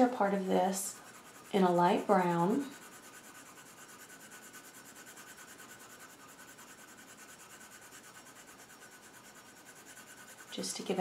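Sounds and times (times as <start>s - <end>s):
pencil shading on paper: 0.0s - 11.0s.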